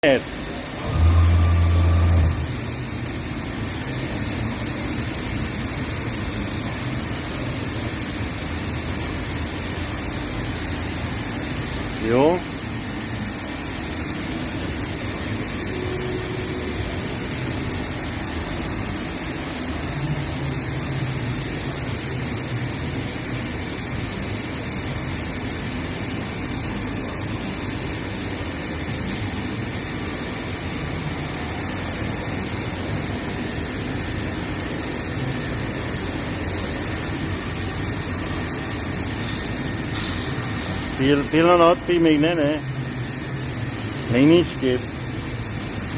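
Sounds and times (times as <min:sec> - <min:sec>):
machine humming and hissing: 0:00.0 - 0:45.9.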